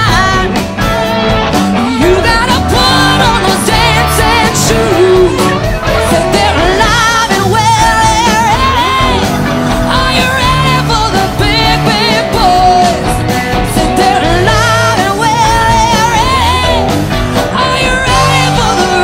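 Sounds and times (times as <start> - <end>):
live rock band: 0.0 - 19.0.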